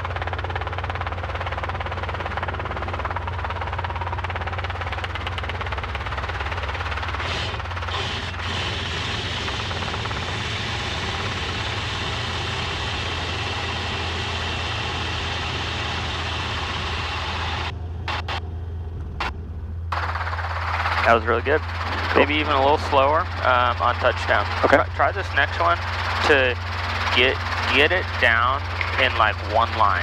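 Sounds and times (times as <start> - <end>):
helicopter engine and rotors droning: 0.0 - 30.0.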